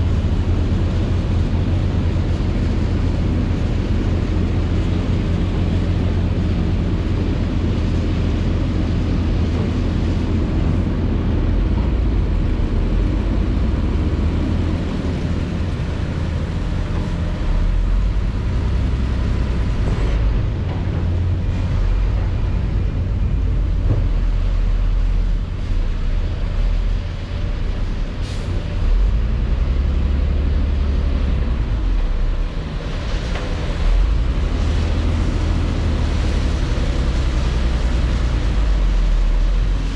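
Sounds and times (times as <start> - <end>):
diesel engine rumble: 0.0 - 39.9.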